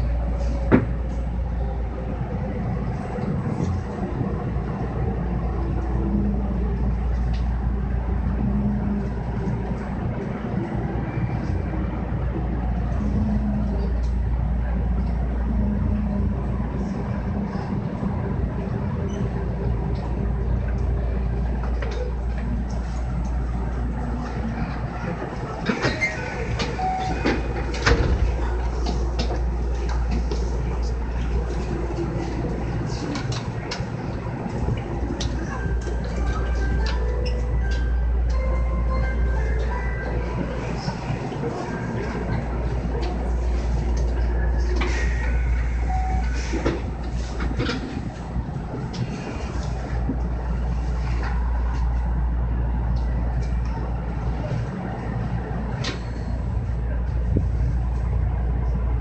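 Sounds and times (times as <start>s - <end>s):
train low hum: 0.0s - 59.0s.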